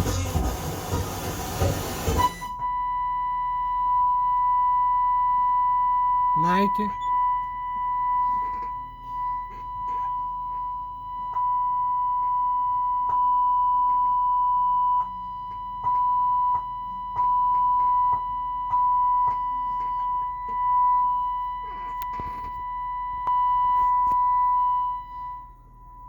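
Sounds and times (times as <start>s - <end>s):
steady test tone: 1.6s - 26.0s.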